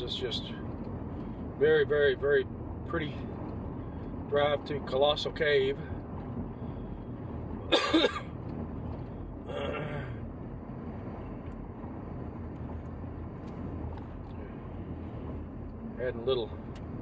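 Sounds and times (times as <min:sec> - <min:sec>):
road and engine noise in cabin: 0:00.0 - 0:17.0.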